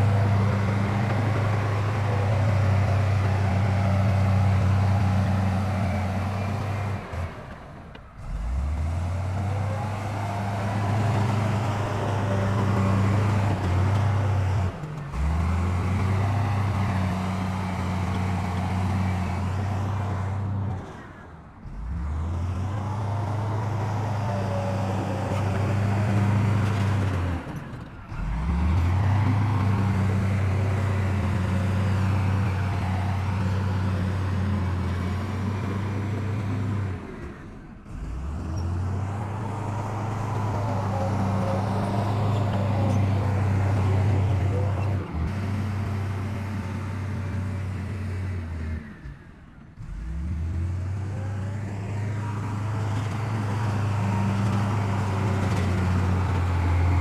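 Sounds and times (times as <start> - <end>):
diesel machinery engine hum: 0.0 - 57.0.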